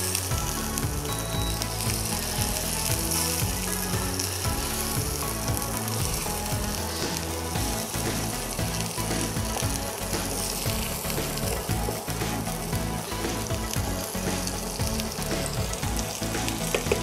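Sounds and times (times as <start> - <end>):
background music: 0.0 - 17.0
beef sizzling in a pan: 0.0 - 17.0.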